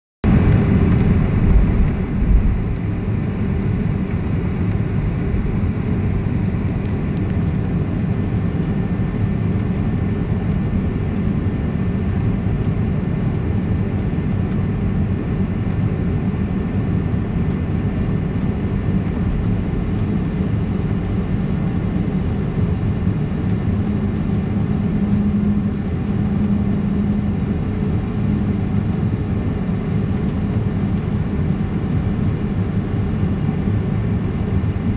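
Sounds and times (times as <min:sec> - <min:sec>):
airliner engines rumbling: 0:00.2 - 0:34.9.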